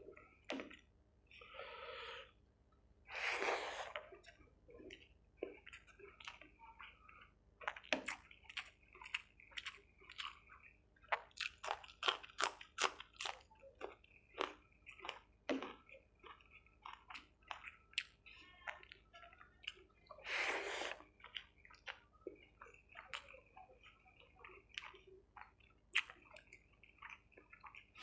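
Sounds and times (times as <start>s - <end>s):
wet chewing with smacks: 0.0s - 0.9s, 3.8s - 28.0s.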